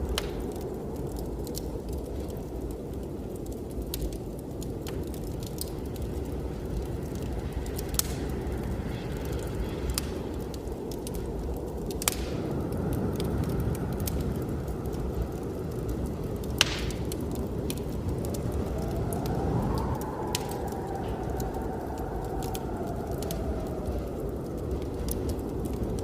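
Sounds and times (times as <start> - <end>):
blizzard wind rushing: 0.0 - 26.0
fire pops: 0.0 - 26.0
wind howling: 0.0 - 26.0
wood fire crackling: 0.0 - 26.0.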